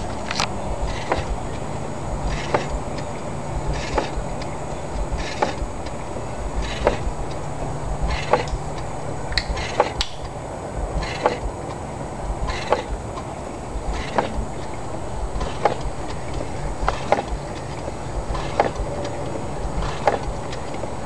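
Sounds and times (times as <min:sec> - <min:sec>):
low rumble: 0:00.0 - 0:21.0
steam engine idling: 0:00.0 - 0:21.0.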